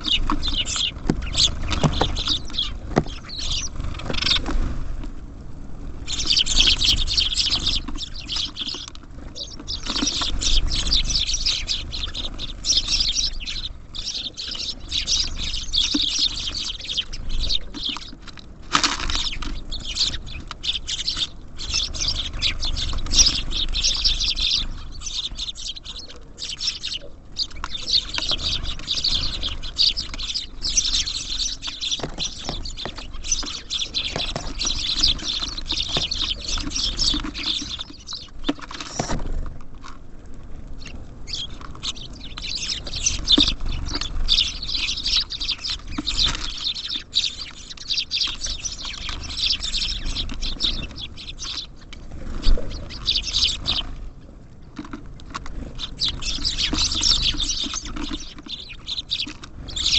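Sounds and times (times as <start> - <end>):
birds pecking at seed: 0.0 - 59.9
songbirds chirping: 0.0 - 59.9.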